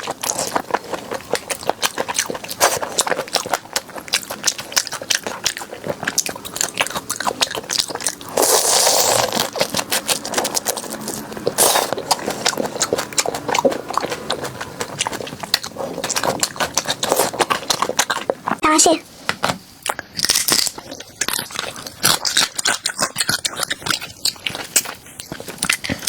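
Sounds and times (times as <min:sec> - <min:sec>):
chewing crunchy food: 0:00.0 - 0:18.7, 0:19.8 - 0:26.0.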